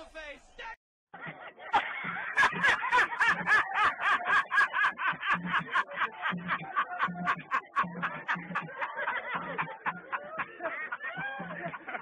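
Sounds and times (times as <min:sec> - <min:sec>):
man laughing in squeaky bursts: 0:01.2 - 0:12.0.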